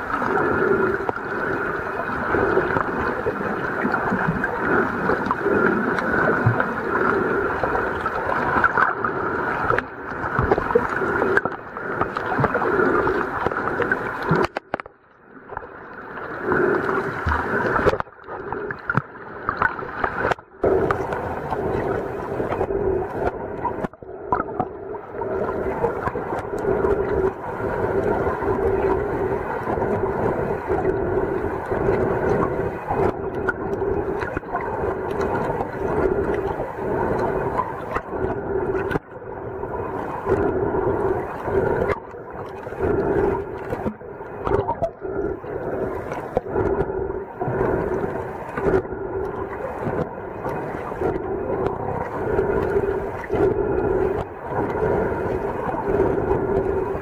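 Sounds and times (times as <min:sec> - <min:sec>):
underwater drone: 0:00.0 - 0:57.0
water swishing: 0:00.0 - 0:57.0.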